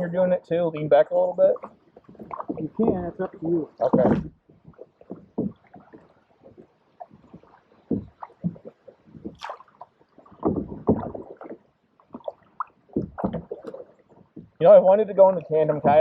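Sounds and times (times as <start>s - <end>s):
canoe paddles splashing in water: 0.0s - 16.0s
water dripping: 0.0s - 16.0s.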